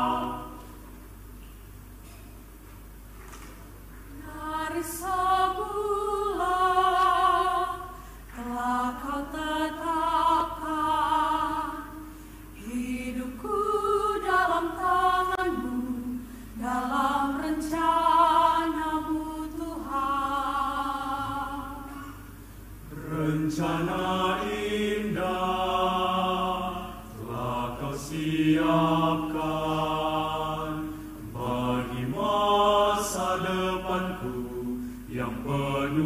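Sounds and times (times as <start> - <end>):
mixed choir singing a hymn: 0.0 - 0.8, 4.2 - 22.2, 22.8 - 36.0.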